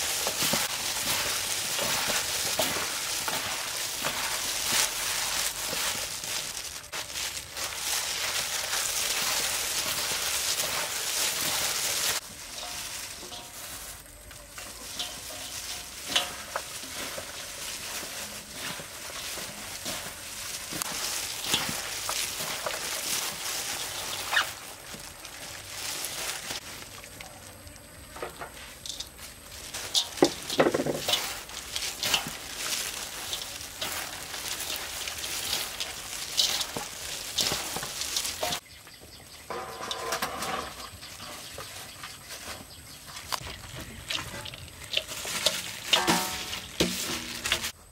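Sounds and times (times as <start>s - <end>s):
peanuts poured with patter: 0.0s - 38.6s, 43.2s - 47.9s
plastic gloves crinkling: 0.0s - 47.9s
wet salad squelching rustle: 0.0s - 47.9s.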